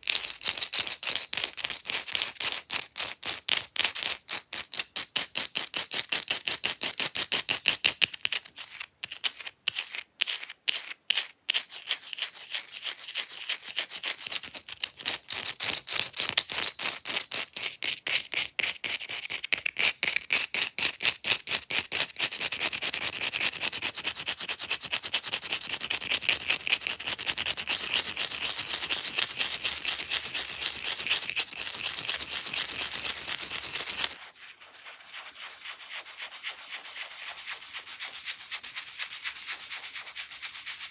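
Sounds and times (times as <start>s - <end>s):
fake nails scratching an object: 0.0s - 40.9s.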